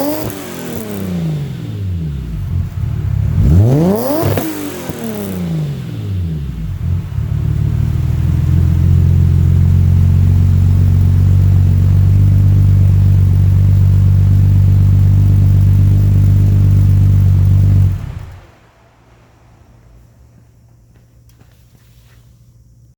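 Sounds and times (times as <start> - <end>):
car engine revving and idling: 0.0 - 21.5.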